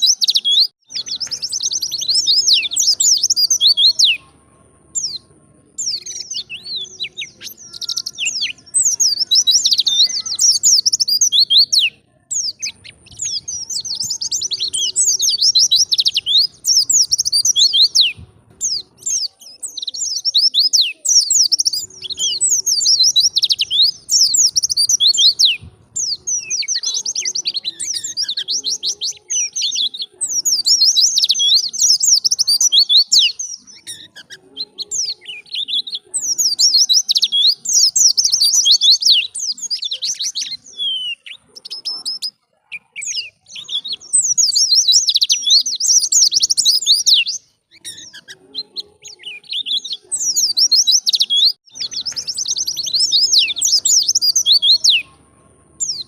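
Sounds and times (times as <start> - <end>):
bird twittering: 0.0 - 4.3, 4.9 - 55.2.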